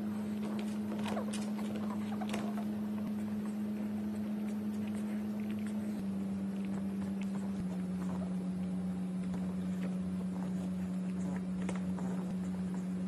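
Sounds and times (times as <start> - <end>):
steady low hum: 0.0 - 13.0
dog licking and chewing: 0.3 - 12.9.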